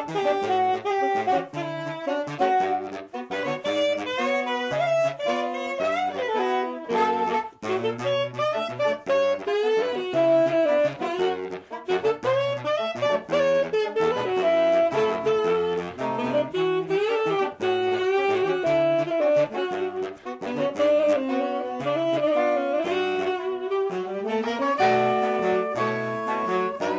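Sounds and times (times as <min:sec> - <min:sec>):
saxophone quartet playing: 0:00.0 - 0:26.9.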